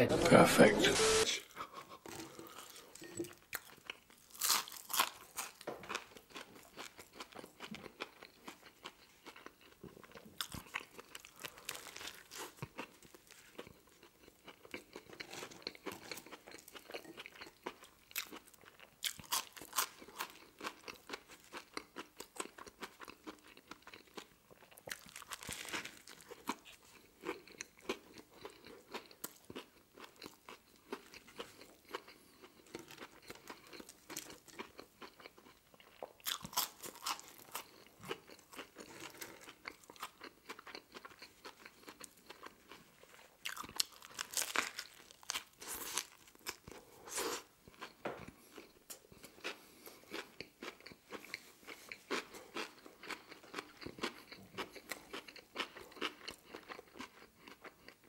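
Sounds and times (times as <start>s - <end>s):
man chewing and crunching food: 0.1s - 58.0s.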